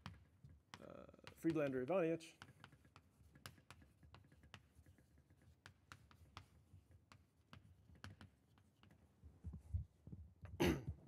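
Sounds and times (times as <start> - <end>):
chalk tapping and dragging on blackboard: 0.0 - 10.1.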